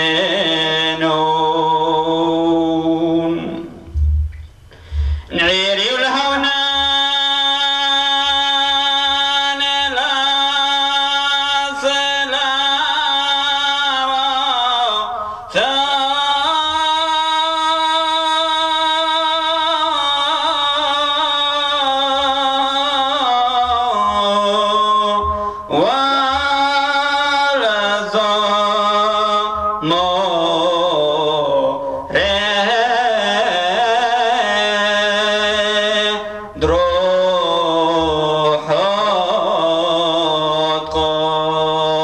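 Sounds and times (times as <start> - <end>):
man chanting a hymn: 0.0 - 4.2, 4.9 - 42.0.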